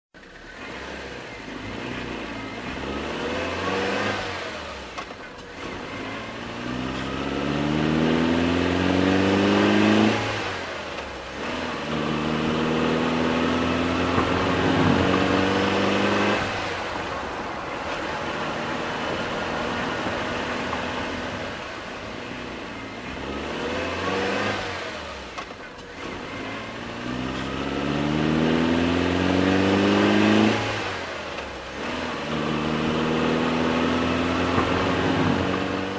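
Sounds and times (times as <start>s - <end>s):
motorcycle engine accelerating: 0.2s - 35.9s.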